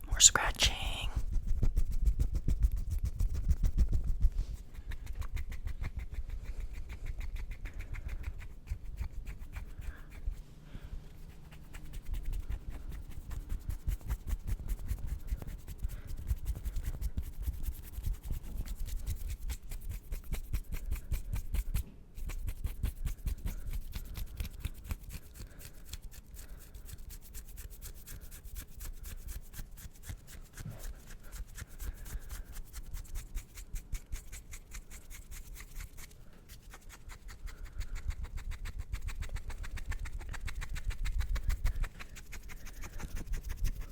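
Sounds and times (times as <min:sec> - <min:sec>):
hands rubbing and scratching: 0:00.0 - 0:43.9.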